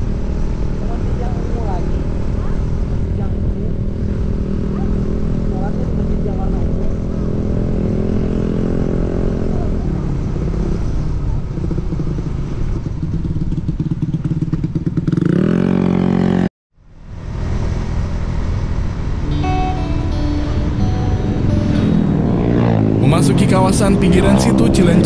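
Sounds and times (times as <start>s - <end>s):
motorcycle engine running: 0.0s - 16.4s, 17.0s - 25.0s.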